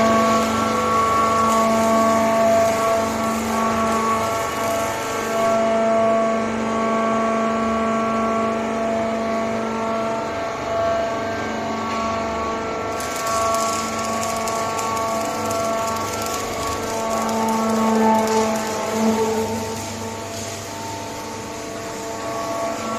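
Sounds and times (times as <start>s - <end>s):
factory machinery hum: 0.0s - 22.9s.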